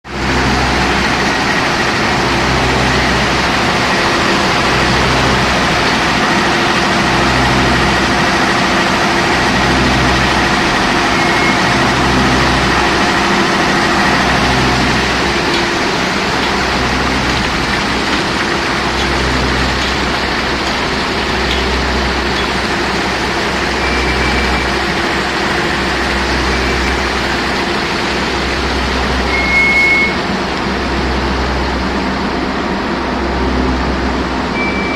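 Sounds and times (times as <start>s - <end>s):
washing machinery running: 0.0s - 34.9s.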